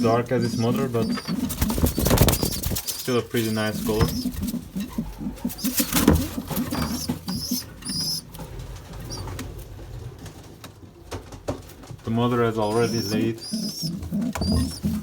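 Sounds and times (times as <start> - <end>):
pigeons cooing: 0.0 - 10.3, 12.2 - 15.0.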